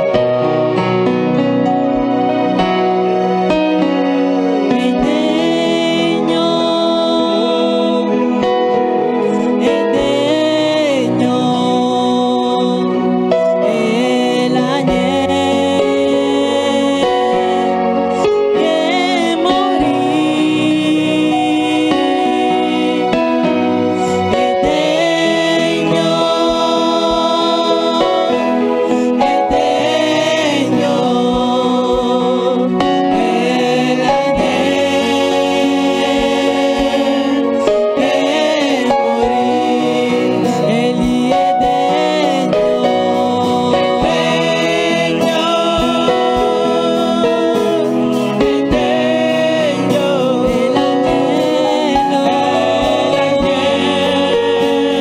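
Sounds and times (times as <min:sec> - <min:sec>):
person singing: 0:00.0 - 0:55.0
slow worship music: 0:00.0 - 0:55.0
sustained instrumental chords: 0:00.0 - 0:55.0.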